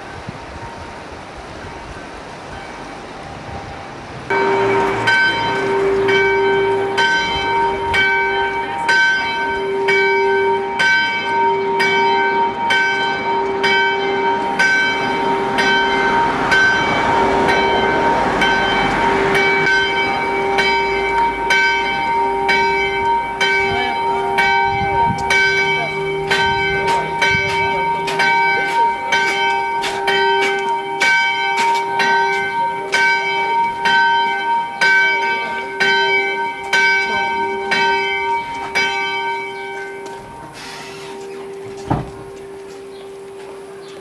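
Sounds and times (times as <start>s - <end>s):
church bell tolling: 4.3s - 44.0s.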